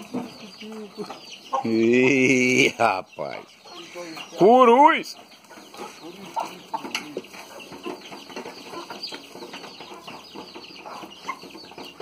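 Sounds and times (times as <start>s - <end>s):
chickens clucking and cheeping: 0.0s - 12.0s.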